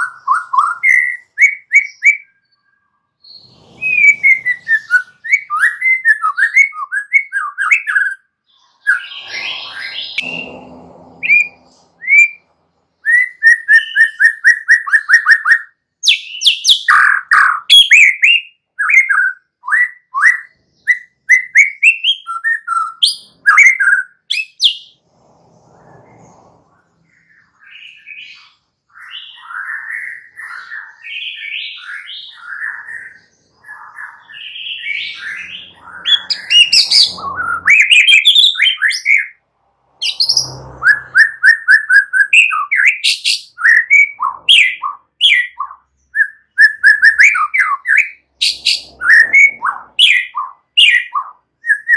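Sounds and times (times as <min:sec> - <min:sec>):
bird singing whistled notes: 0:00.0 - 0:25.0, 0:27.0 - 0:39.4, 0:40.0 - 0:51.9.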